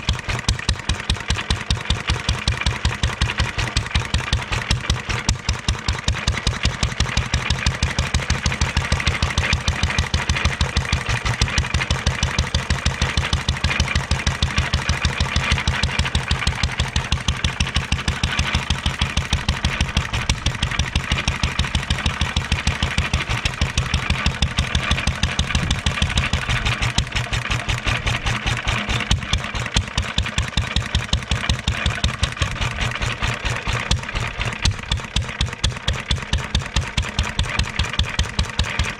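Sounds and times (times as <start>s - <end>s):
stationary engine running: 0.0s - 38.9s.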